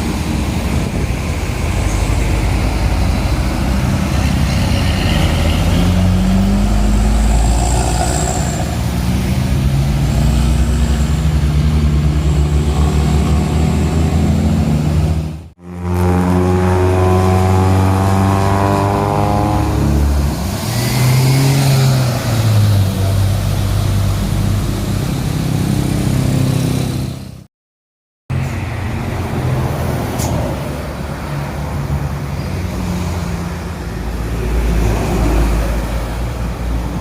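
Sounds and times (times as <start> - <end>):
heavy diesel engine: 0.0 - 27.5, 28.3 - 37.0.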